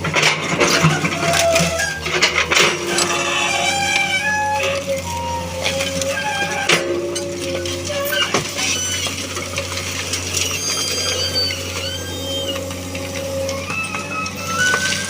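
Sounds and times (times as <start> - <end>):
excavator engine humming: 0.0 - 15.0
high squeaking gliding tones: 0.7 - 15.0.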